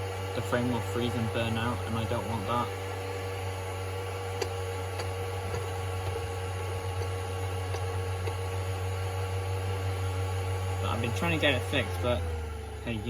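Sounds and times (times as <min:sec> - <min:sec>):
film projector motor hum: 0:00.0 - 0:13.0.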